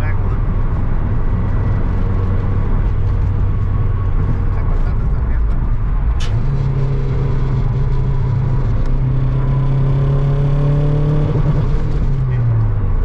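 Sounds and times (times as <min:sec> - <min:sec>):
car engine cruising: 0:00.0 - 0:13.0
road and tyre rumble: 0:00.0 - 0:13.0.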